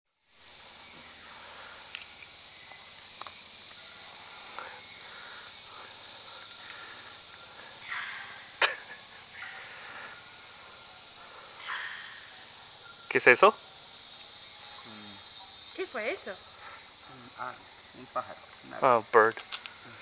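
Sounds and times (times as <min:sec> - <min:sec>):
rainforest insects chorus: 0:00.1 - 0:20.0.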